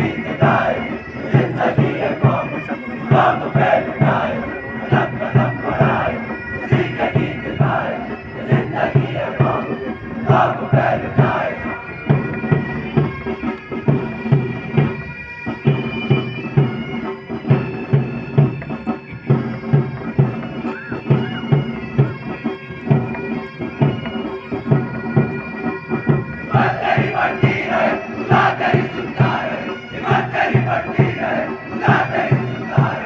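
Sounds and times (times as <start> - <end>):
drum beating: 0.0 - 15.0, 15.6 - 33.0
bagpipes playing: 0.0 - 33.0.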